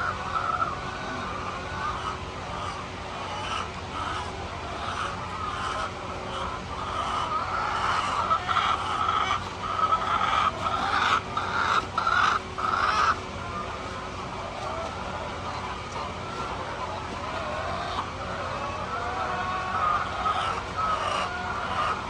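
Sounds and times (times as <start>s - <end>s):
chickens clucking and squawking: 0.0s - 22.0s.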